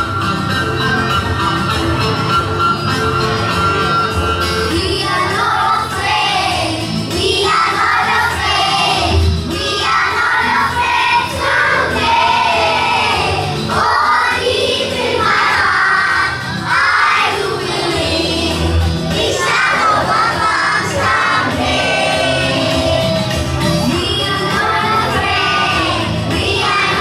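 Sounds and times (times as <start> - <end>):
instrumental backing music: 0.0 - 27.0
children singing: 4.4 - 27.0.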